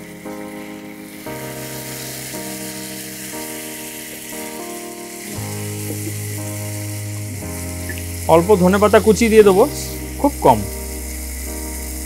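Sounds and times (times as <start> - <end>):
background music sustained notes: 0.0 - 12.0
gravy sizzling in a pan: 0.0 - 12.0.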